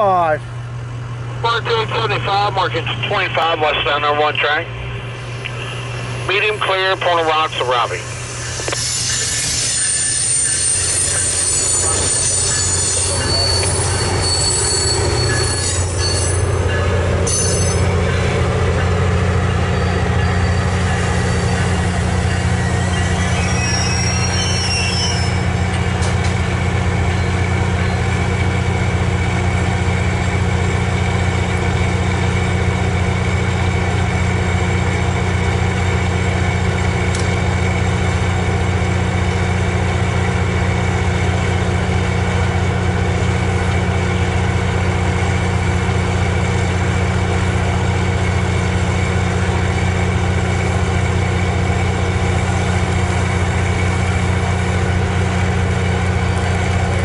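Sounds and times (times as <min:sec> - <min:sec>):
diesel locomotive idling: 0:00.0 - 0:57.0.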